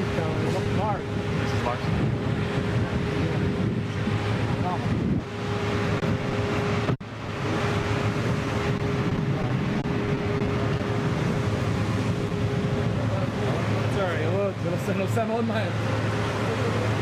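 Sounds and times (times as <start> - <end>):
constant low hum: 0.0 - 17.0
loud rushing noise: 0.0 - 17.0.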